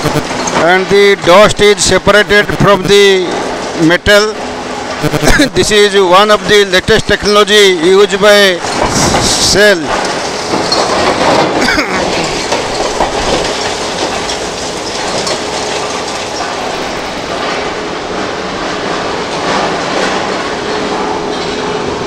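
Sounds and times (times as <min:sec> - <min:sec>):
crushing machinery noise: 0:00.0 - 0:22.0
steady machine hum: 0:00.0 - 0:22.0.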